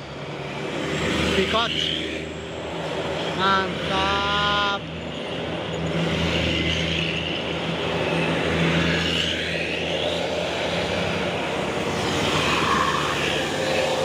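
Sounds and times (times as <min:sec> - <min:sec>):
bus engine drone: 0:00.0 - 0:14.0
tyre and road noise: 0:00.0 - 0:14.0.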